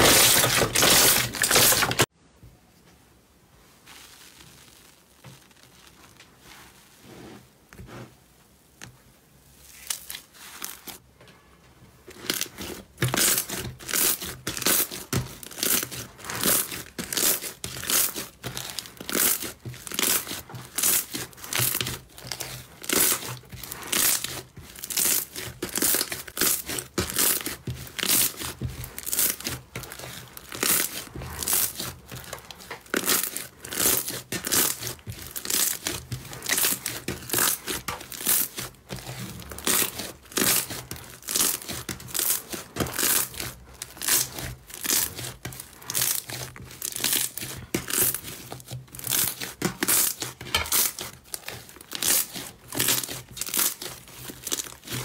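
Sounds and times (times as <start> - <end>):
slime squishing: 0.0 - 2.1, 3.8 - 8.0, 12.0 - 55.0.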